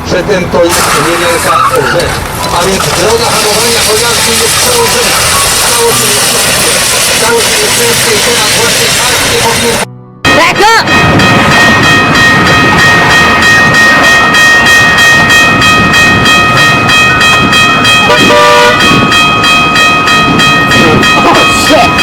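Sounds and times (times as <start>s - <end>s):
train wheels clattering on rails: 1.9s - 22.0s
high-pitched tone: 3.9s - 22.0s.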